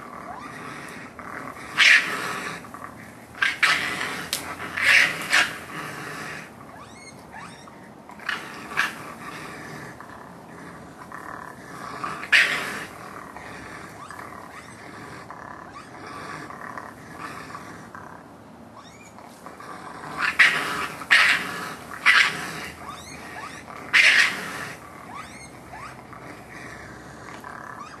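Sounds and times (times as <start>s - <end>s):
raccoons screeching snarls: 0.0s - 28.0s.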